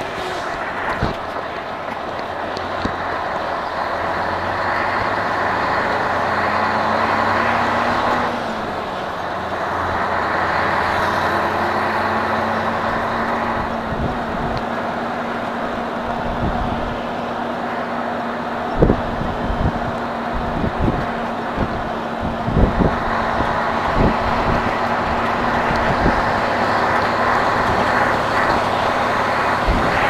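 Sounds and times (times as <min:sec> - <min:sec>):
road noise: 0:00.0 - 0:30.0
truck engine: 0:00.0 - 0:30.0.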